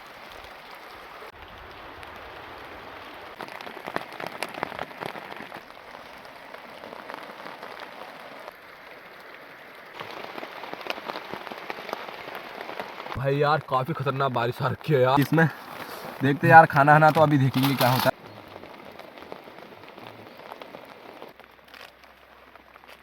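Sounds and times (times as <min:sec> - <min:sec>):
heavy rain pattering: 0:00.0 - 0:23.0.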